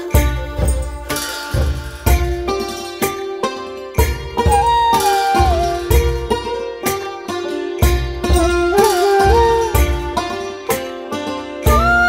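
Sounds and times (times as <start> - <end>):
music with steady beat: 0.0 - 12.0
sliding melody: 0.0 - 12.0.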